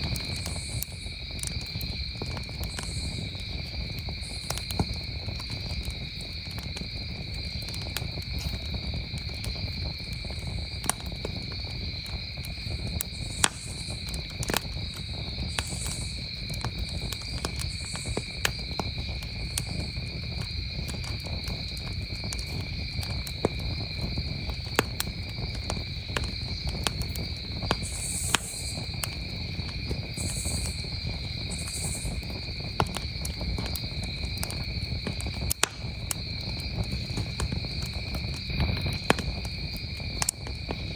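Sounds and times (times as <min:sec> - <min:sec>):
campfire crackling and popping: 0:00.0 - 0:40.9
crickets trilling: 0:00.0 - 0:40.9.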